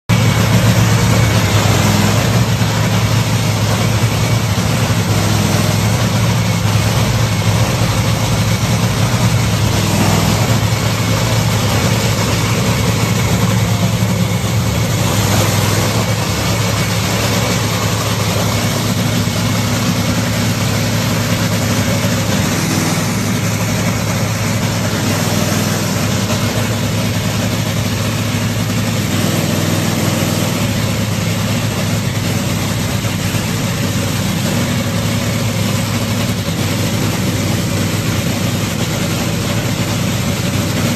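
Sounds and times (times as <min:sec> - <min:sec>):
race car engine idling: 0:00.0 - 0:40.9.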